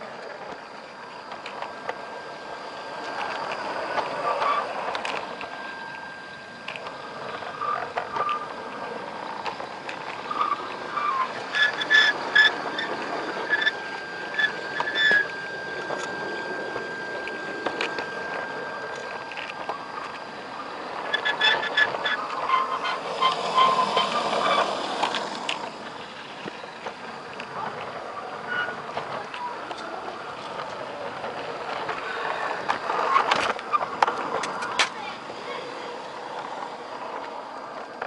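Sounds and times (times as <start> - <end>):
model train rolling rattle: 0.0 - 38.0
steady high whine: 0.0 - 38.0
wheels clicking over rail joints: 0.0 - 38.0.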